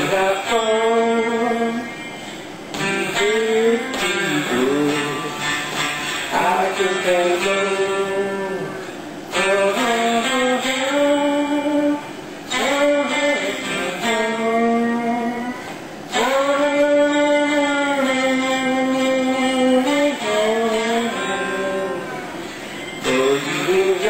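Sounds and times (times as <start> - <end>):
electric guitar lead: 0.0 - 24.0.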